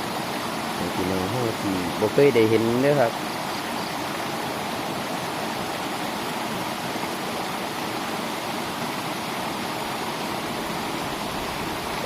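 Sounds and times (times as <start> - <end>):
water rushing through a channel: 0.0 - 12.0.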